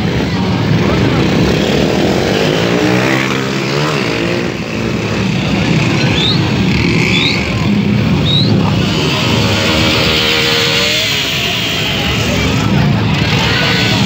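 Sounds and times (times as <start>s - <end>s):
crowd noise: 0.0s - 14.0s
motorcycle engine revving: 0.0s - 14.0s.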